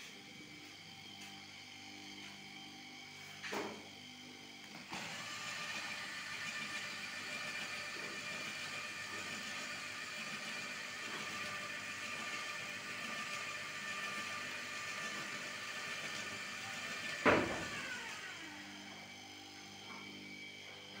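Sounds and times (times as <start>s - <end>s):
electric hose reel motor running: 0.0s - 21.0s.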